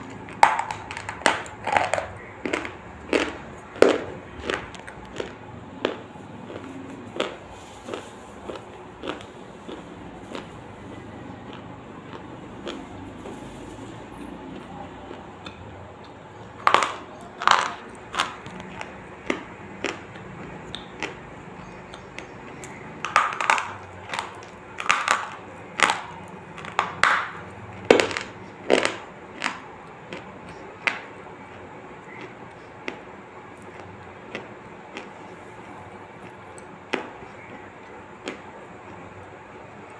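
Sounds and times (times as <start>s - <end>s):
ice being crunched and chewed: 0.0s - 13.9s, 16.6s - 39.0s.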